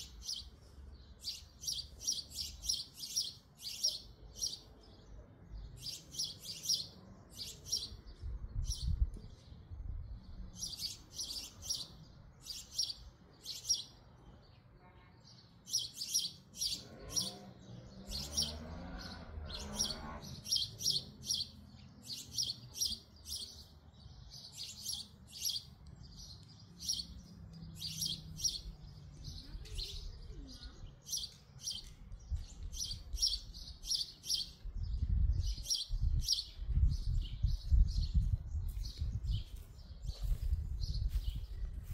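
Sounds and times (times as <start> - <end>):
small songbird chirping: 0.0 - 41.9.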